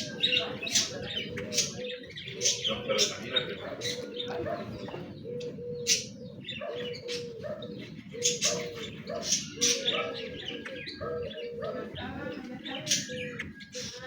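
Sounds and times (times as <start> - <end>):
bird cooing: 0.0 - 14.0.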